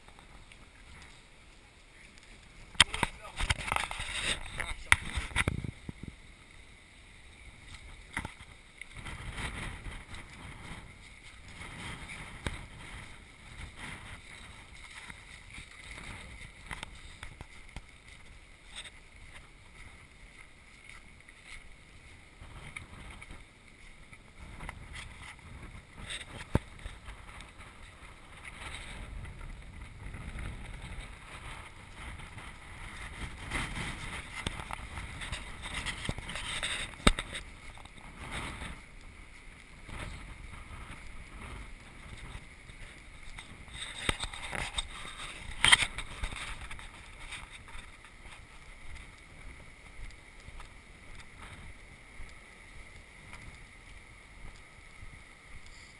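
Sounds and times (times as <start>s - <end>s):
water splashing: 0.0s - 55.9s
wind buffeting microphone: 2.6s - 6.3s, 7.5s - 19.0s, 24.2s - 55.2s.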